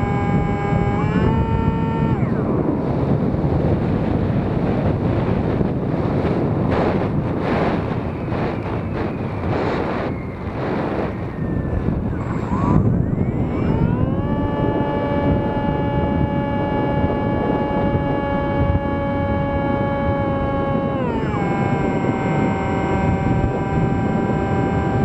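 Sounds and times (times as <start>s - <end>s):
model plane motor whine: 0.0s - 25.0s
wind rushing over microphone: 0.0s - 25.0s.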